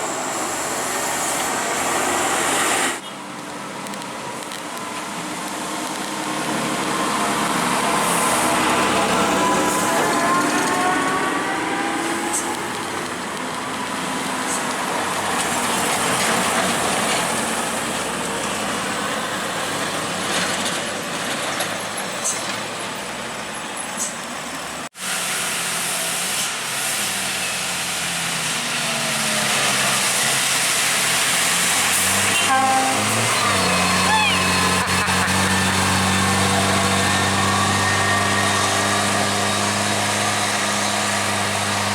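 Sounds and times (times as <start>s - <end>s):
heavy trucks passing: 0.0s - 41.9s
tyre and road noise: 0.0s - 41.9s.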